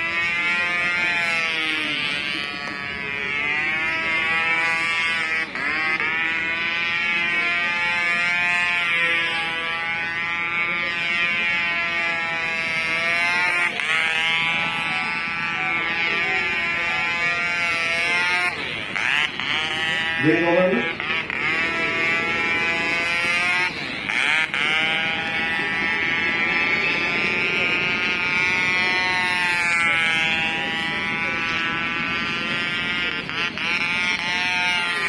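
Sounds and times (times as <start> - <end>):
model aircraft engine buzzing: 0.0 - 35.0.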